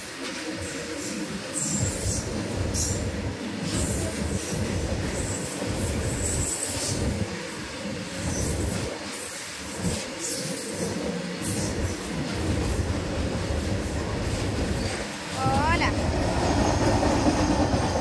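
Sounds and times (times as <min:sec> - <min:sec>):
train wheel squeals: 0:00.0 - 0:15.4, 0:16.2 - 0:18.0
freight train rumbling past: 0:00.0 - 0:18.0.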